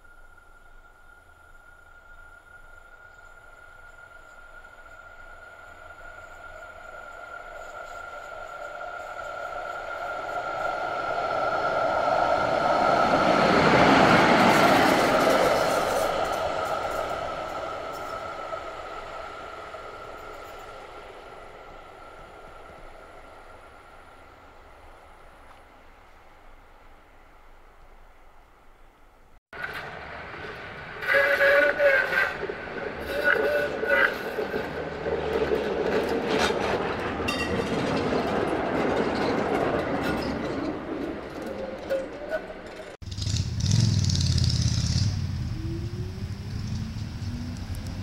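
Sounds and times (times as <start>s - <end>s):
tram whine: 0.0s - 27.4s, 29.6s - 48.0s
tram rolling on track: 1.0s - 25.6s, 29.6s - 48.0s.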